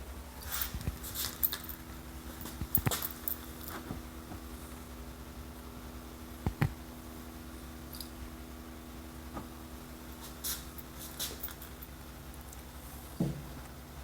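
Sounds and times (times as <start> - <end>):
steady low hum from car: 0.0 - 14.0.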